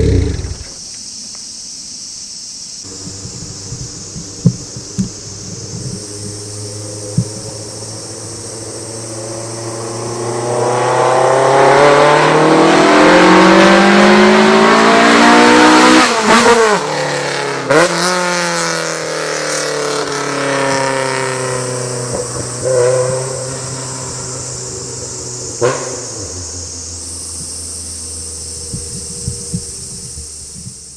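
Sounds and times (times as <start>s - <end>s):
engine rev blip: 2.8s - 30.9s
car engine accelerating: 2.9s - 30.9s.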